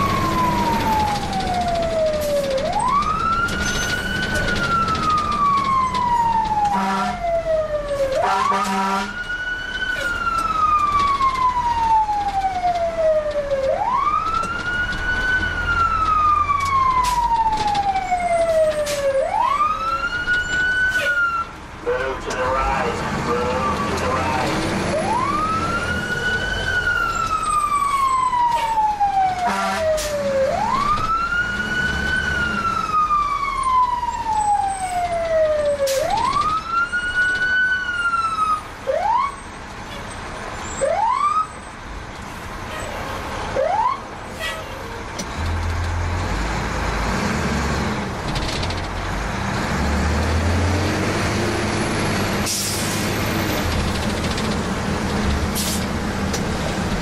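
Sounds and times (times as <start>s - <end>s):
fire engine siren wailing: 0.0s - 41.8s, 42.5s - 57.0s
truck engine and road noise: 0.0s - 57.0s.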